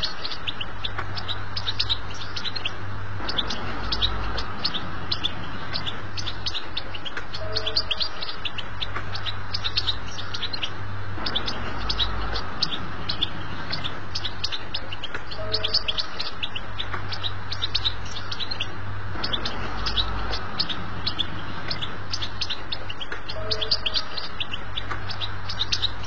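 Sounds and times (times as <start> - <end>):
finch song chirps and twitters: 0.0 - 26.0
steady low hum: 0.0 - 26.0.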